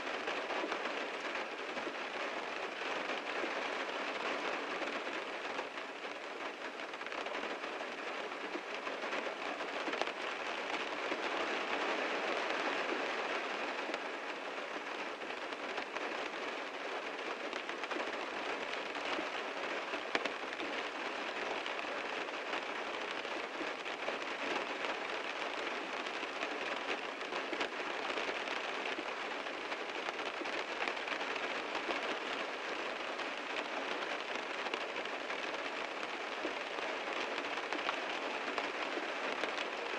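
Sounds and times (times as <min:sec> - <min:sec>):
heavy rain drumming on a car: 0:00.0 - 0:39.9.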